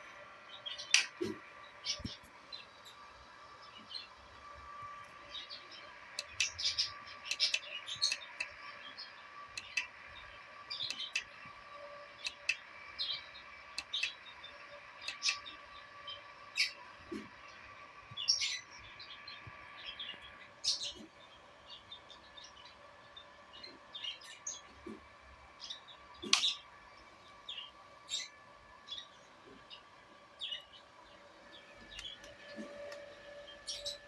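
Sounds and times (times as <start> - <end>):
faint steady hum: 0.0 - 34.0
small birds chirping: 0.0 - 34.0.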